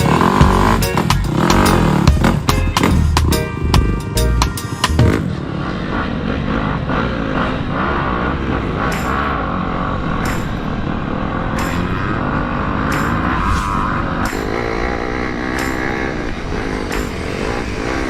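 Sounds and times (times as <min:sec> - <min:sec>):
dirt bike engine revving: 0:00.0 - 0:03.0, 0:05.1 - 0:18.0.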